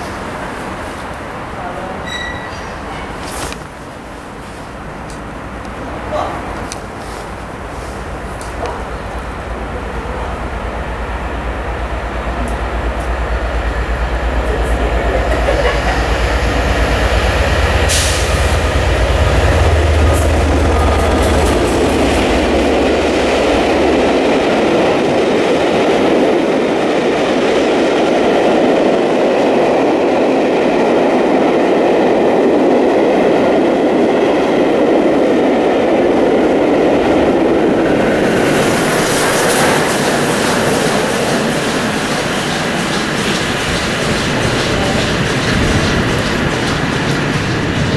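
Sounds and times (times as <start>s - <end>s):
steam locomotive deep rumble: 0.0s - 29.2s, 29.9s - 47.9s
train coaches clickety-clack: 0.0s - 47.9s.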